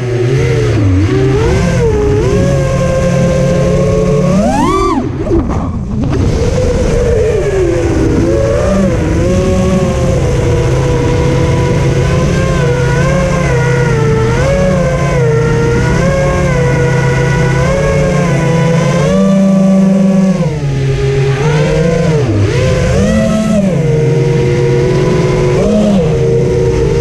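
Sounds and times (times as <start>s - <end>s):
low wind rumble: 0.0s - 27.0s
quadcopter motors whining: 0.0s - 27.0s.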